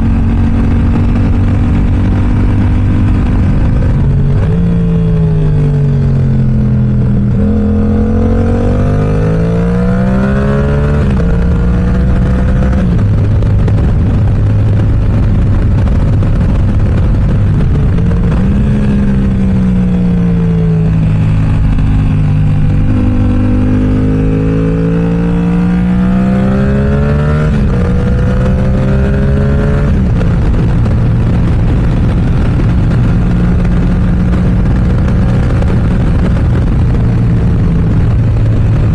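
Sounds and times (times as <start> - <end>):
motorcycle engine revving through gears: 0.0 - 38.9
wind rushing: 0.0 - 38.9.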